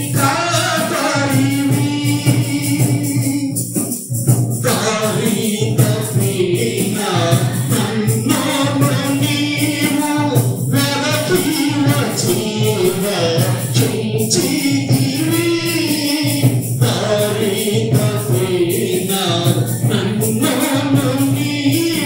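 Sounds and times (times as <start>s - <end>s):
instrumental backing with beat: 0.0s - 22.0s
voices singing devotional song: 0.0s - 22.0s.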